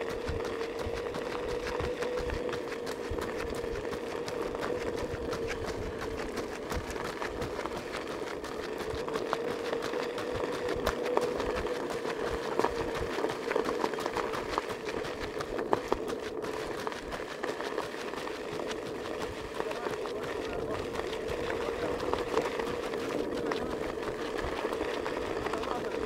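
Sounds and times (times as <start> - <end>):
vehicle motor whining: 0.0 - 26.0.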